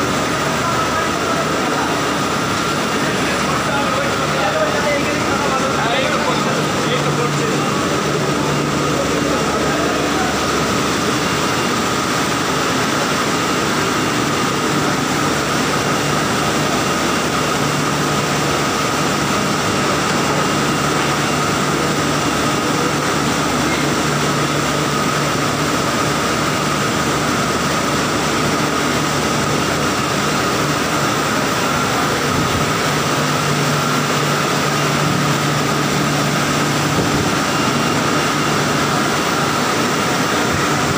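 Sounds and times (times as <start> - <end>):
conveyor machinery drone: 0.0 - 40.9.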